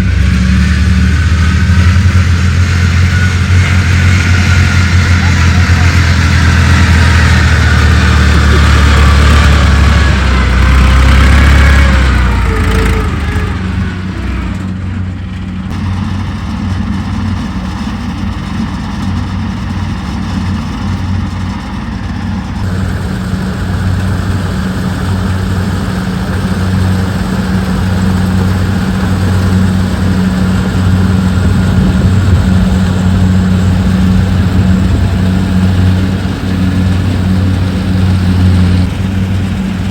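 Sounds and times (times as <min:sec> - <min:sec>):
combine harvester engine humming: 0:00.0 - 0:39.9
wavering machinery whine: 0:00.0 - 0:39.9.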